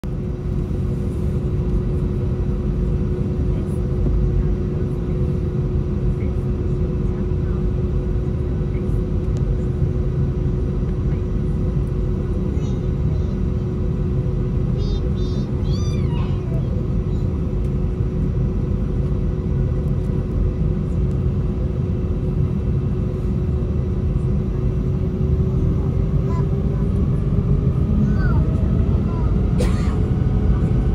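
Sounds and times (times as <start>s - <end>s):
constant hum: 0.0s - 30.9s
jet engines rumbling: 0.0s - 30.9s.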